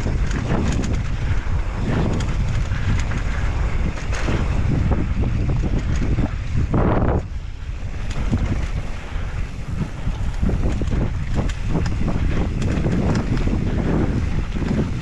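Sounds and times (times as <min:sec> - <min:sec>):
bike rattling over rough trail: 0:00.0 - 0:15.0
wind rushing over camera: 0:00.0 - 0:15.0.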